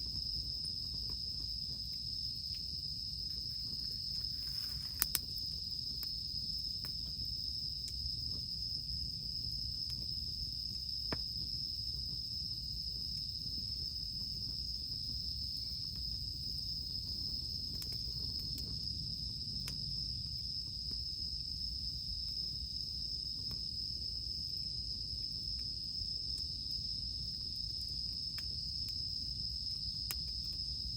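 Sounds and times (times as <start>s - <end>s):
campfire crackling pops: 0.0s - 30.9s
cicadas droning: 0.0s - 30.9s.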